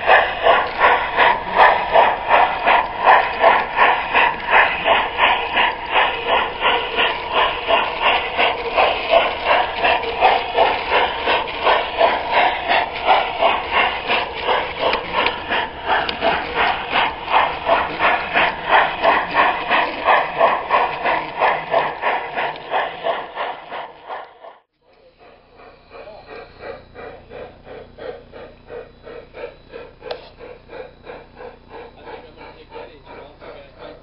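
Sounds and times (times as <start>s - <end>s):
model steam locomotive chuffing: 0.0s - 34.0s.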